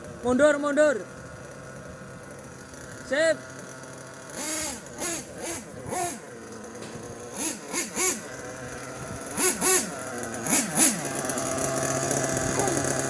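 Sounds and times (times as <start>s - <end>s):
toy truck motor revving: 0.0s - 13.0s.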